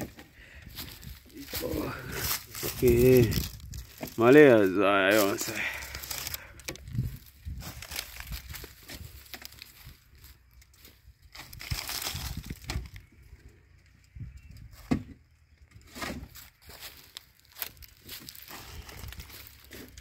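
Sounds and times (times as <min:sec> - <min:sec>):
dry stalks rustling: 0:00.0 - 0:20.0.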